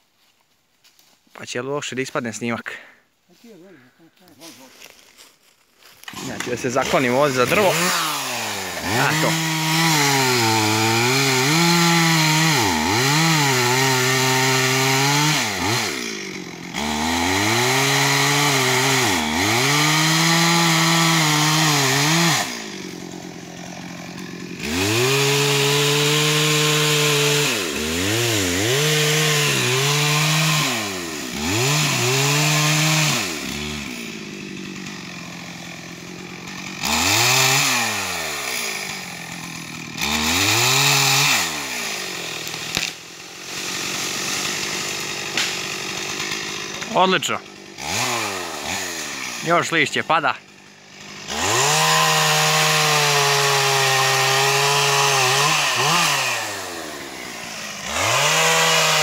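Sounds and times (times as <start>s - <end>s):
chainsaw revving: 6.0s - 59.0s
chainsaw idling: 6.1s - 59.0s.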